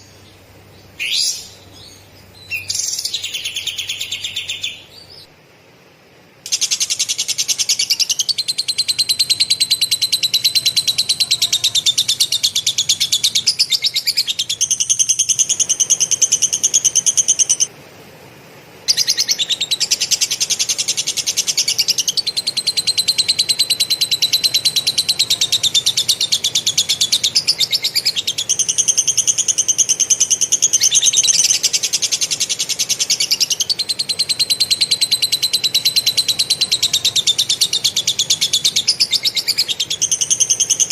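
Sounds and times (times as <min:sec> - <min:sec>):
songbird rolling trill: 0:06.5 - 0:17.7, 0:18.9 - 0:40.9.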